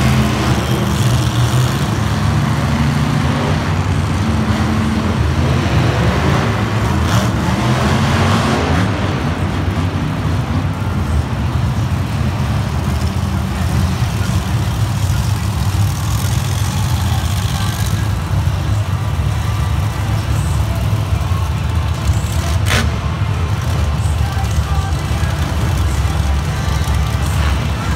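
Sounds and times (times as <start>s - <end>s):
monster truck engines droning: 0.0s - 27.9s.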